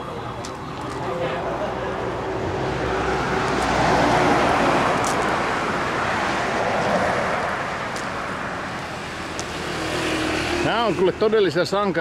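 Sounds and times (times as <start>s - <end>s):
vehicle passing: 0.1s - 11.5s.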